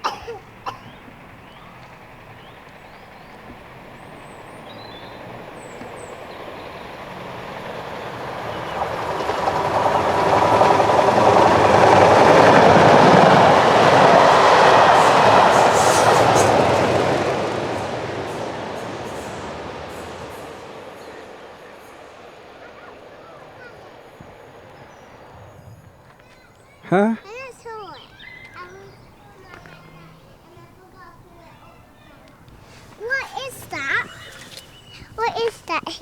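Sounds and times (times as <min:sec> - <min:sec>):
diesel locomotive engine: 0:00.0 - 0:36.0
train wheels on rails: 0:00.0 - 0:36.0.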